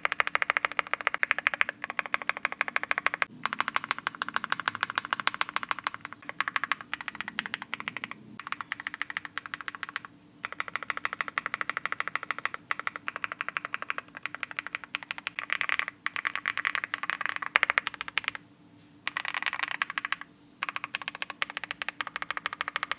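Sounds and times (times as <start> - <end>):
fast typing on mechanical keyboard: 0.0 - 18.4, 19.1 - 22.9.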